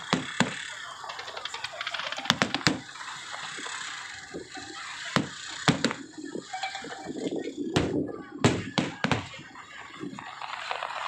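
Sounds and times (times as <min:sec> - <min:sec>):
firework shells bursting: 0:00.0 - 0:09.7
firework crackling: 0:00.0 - 0:11.0
steady hiss: 0:00.0 - 0:11.0.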